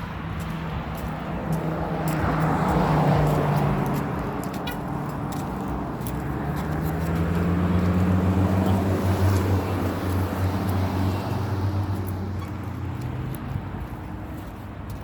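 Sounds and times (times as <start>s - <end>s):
tyre and road noise: 0.0s - 15.0s
vehicle engine hum: 0.0s - 15.0s.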